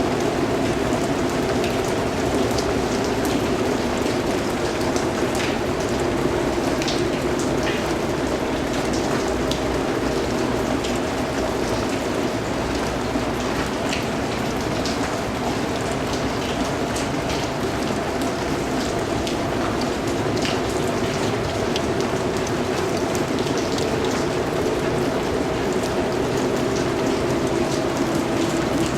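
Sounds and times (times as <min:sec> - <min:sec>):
rain pattering: 0:00.0 - 0:28.9.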